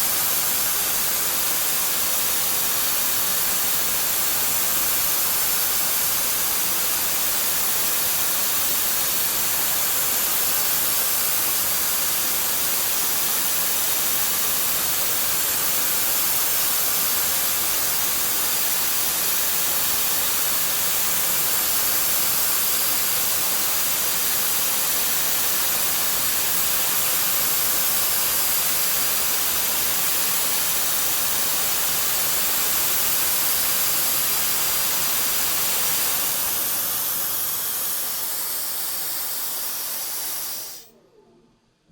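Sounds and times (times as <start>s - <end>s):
machine cutting metal hiss: 0.0s - 40.9s.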